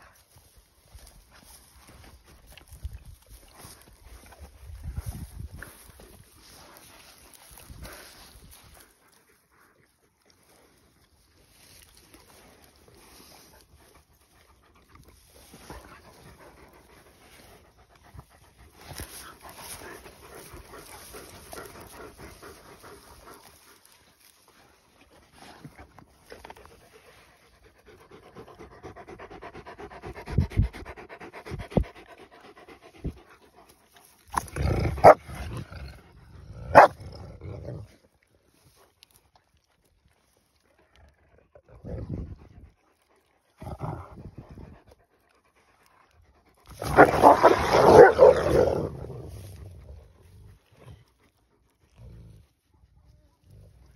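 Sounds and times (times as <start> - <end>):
dry grass rustling: 0.0 - 28.8, 32.7 - 53.9
dogs panting and snuffling: 0.0 - 53.9.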